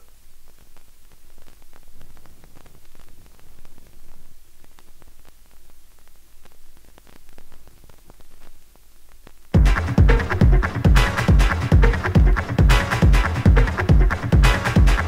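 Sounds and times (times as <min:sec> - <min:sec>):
vinyl crackles and pops: 0:00.0 - 0:15.0
vinyl surface hiss: 0:00.0 - 0:15.0.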